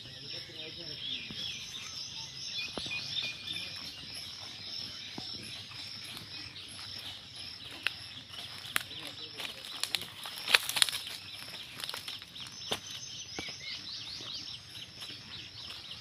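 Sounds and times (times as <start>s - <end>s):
bird chirping: 0.0s - 16.0s
high insect drone: 0.0s - 16.0s.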